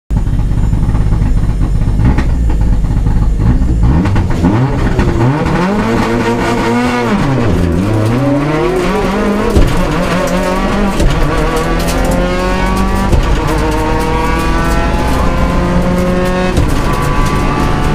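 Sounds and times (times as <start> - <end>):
rally car engine revving: 0.1 - 17.9.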